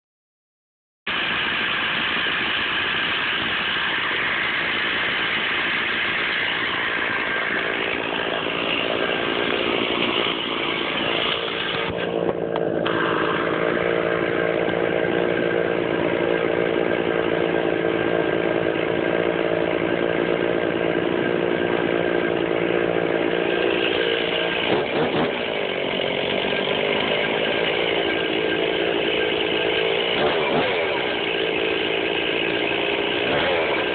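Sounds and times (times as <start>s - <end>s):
chainsaw cutting log: 1.1s - 33.9s
chainsaw engine running: 1.1s - 33.9s.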